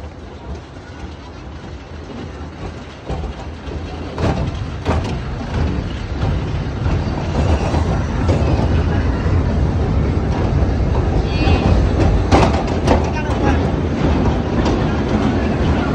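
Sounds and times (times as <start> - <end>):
roller coaster wheel rumble: 0.0 - 15.9
sharp track clacks: 0.0 - 15.9.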